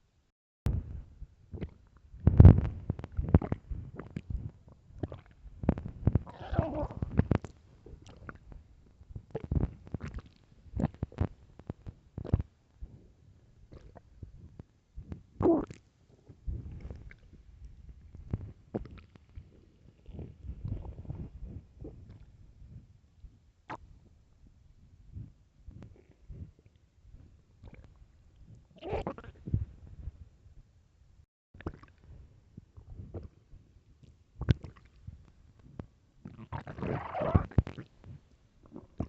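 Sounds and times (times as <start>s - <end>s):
stomach growling: 1.5s - 22.9s, 25.1s - 29.7s, 31.6s - 33.6s, 34.4s - 39.0s.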